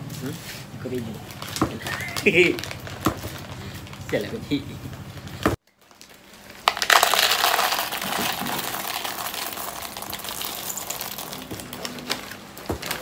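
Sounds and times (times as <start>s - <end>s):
wrapper crinkling and tearing: 1.2s - 4.5s, 5.7s - 13.0s.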